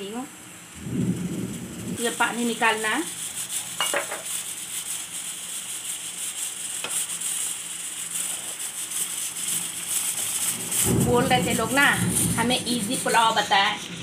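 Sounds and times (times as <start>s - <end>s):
steady hiss: 0.0s - 14.0s
ladle stirring rice in water: 2.0s - 14.0s.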